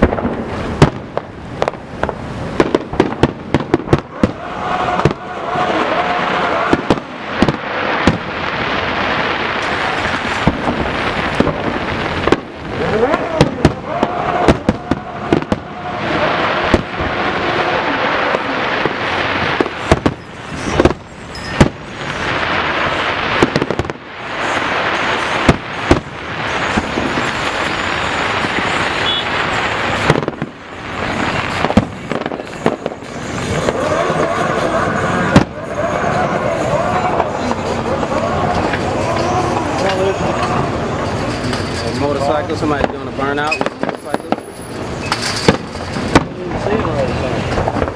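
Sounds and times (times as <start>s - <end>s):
continuous noisy din: 0.0s - 47.9s
fireworks bangs: 0.0s - 47.9s.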